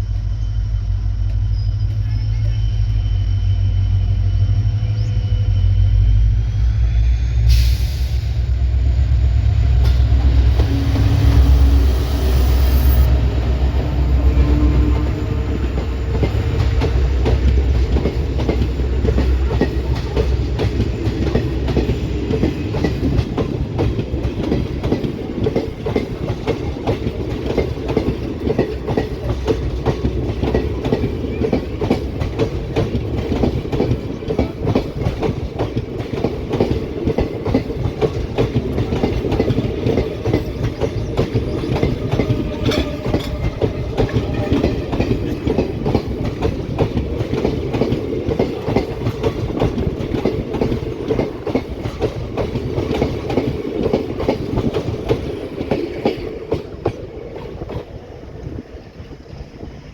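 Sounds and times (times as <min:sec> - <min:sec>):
low train rumble: 0:00.0 - 0:59.9
train wheels clattering over rails: 0:07.5 - 0:59.9.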